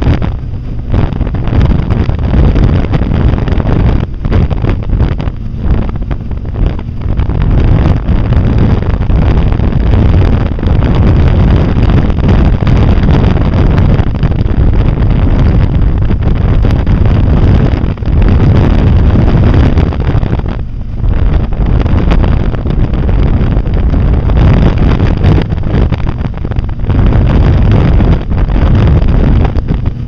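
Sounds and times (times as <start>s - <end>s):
road noise: 0.0s - 30.0s
vehicle engine: 0.0s - 30.0s
wind buffeting microphone: 0.0s - 30.0s.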